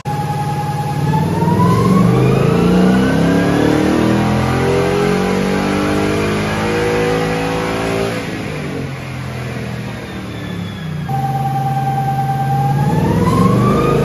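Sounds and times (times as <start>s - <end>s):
car engine revving at full throttle: 0.1s - 14.0s.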